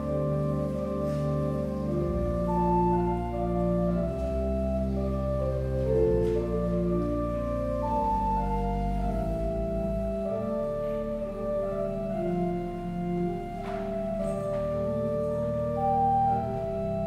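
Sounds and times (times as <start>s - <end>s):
church organ playing chords: 0.0s - 17.0s.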